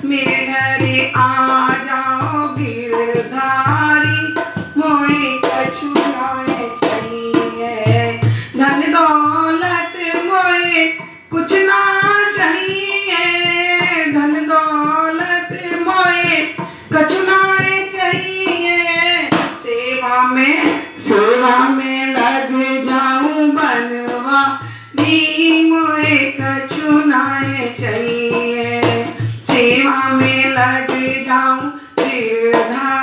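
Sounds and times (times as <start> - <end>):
woman singing devotional song: 0.0 - 33.0.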